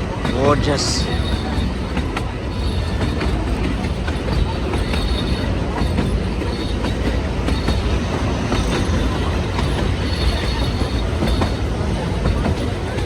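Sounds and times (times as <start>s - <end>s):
railway carriage rumble: 0.0s - 13.0s
wheels clacking over rails: 0.0s - 13.0s
faint high wheel squeal: 0.9s - 13.0s.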